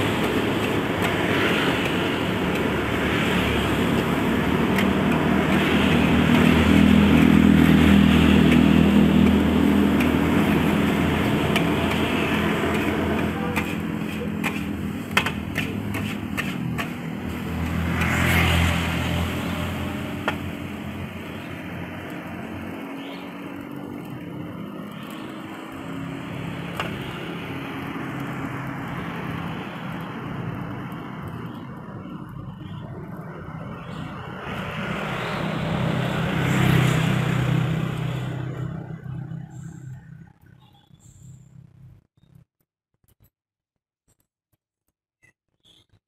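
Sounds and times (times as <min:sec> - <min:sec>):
street noise hiss: 0:00.0 - 0:40.0
vehicles passing: 0:00.0 - 0:42.1.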